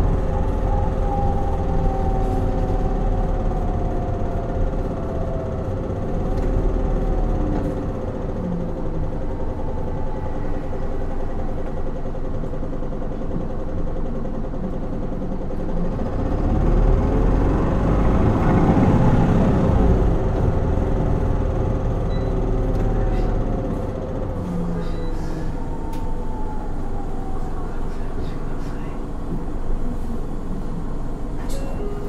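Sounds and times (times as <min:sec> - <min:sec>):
bus diesel engine humming: 0:00.0 - 0:32.0.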